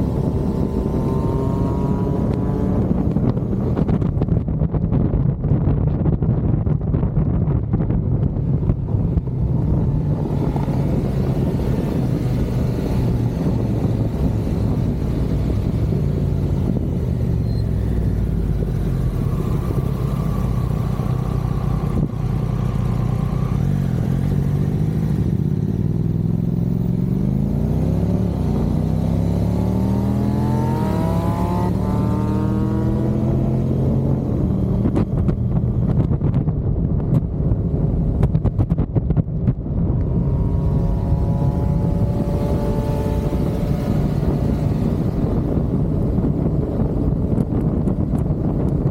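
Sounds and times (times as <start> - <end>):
motorcycle engine running: 0.0 - 48.9
wind buffeting microphone: 0.0 - 48.9.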